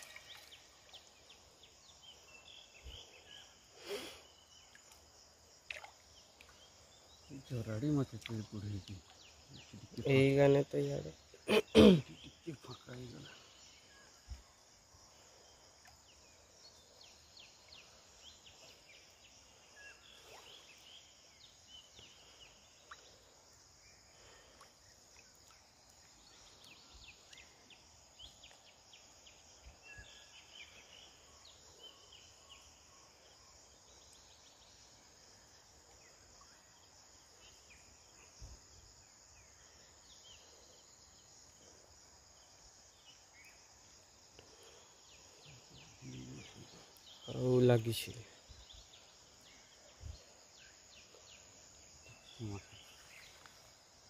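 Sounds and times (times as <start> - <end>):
faint ticks and chirps: 0.0 - 54.0.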